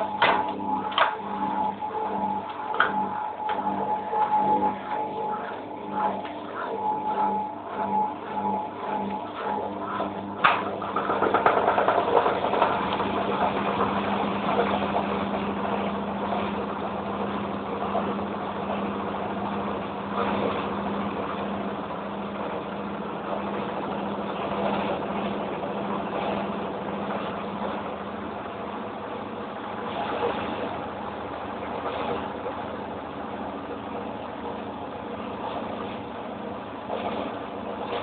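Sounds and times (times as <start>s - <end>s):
washing machine spin hum: 0.0s - 38.0s.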